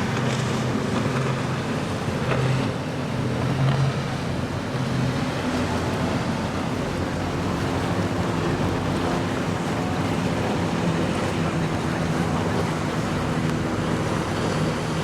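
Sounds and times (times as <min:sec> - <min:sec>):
boat engines droning: 0:00.0 - 0:15.0
waves washing: 0:00.0 - 0:15.0.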